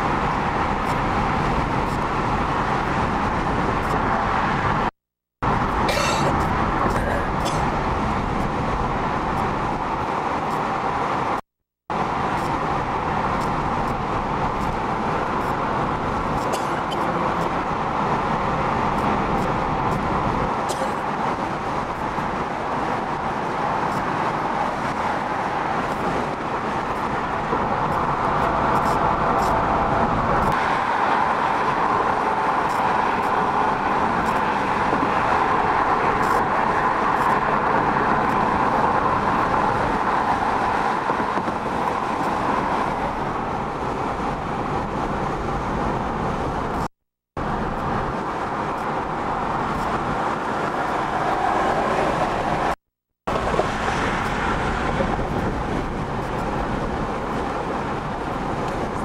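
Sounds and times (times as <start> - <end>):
car cabin road noise: 0.0 - 59.0
tyres and engine humming: 0.0 - 59.0.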